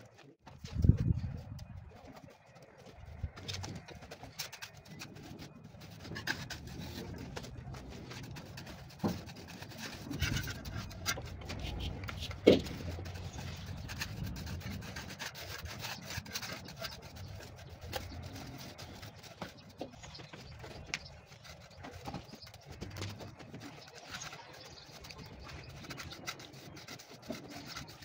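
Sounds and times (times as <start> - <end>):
grit clicking: 0.0 - 28.0
trowels scraping mortar: 0.8 - 28.0.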